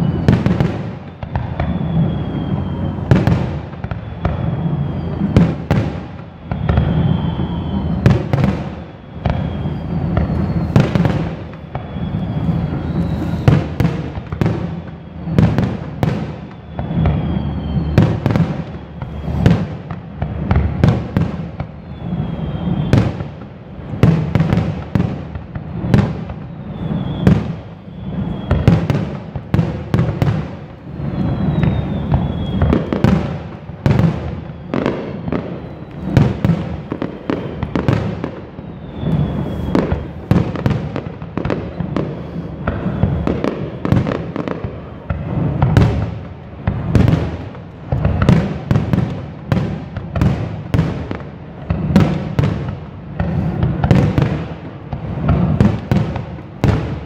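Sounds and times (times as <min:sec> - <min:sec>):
firework falling whistles: 0:00.0 - 0:57.0.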